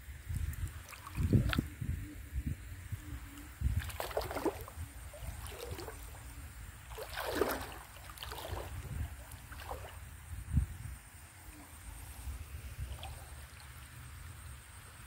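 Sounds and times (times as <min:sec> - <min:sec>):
water splashing and sloshing: 0:00.2 - 0:01.8, 0:03.1 - 0:15.0.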